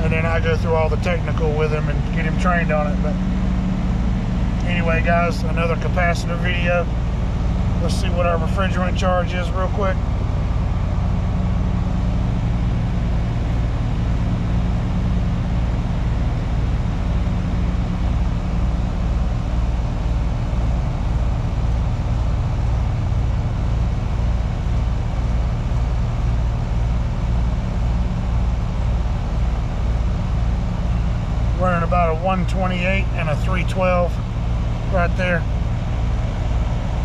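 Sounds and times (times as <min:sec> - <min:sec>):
heat pump pulsing hum: 0:00.0 - 0:37.0.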